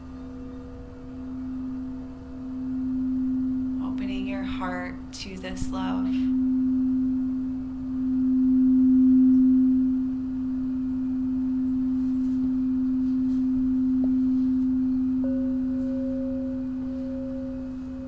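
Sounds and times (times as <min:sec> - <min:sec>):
singing bowl low tone: 0:00.0 - 0:18.0.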